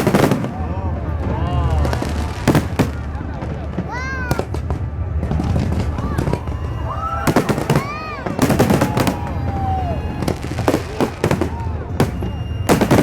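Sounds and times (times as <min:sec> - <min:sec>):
crowd voices: 0:00.0 - 0:13.0
fireworks bangs and crackles: 0:00.0 - 0:13.0.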